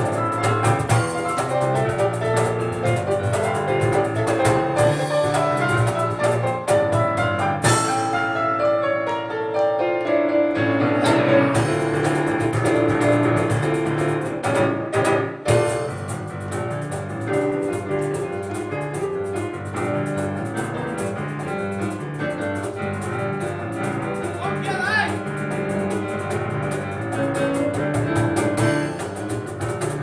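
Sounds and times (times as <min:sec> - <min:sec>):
cajon beat: 0:00.0 - 0:09.1, 0:10.7 - 0:30.0
piano chords and melody: 0:00.0 - 0:30.0.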